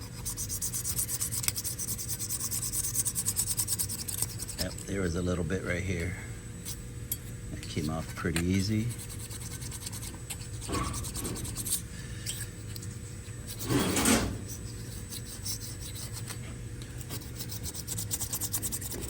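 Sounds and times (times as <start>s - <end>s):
razor blade scraping metal: 0.0s - 5.0s, 6.6s - 19.0s.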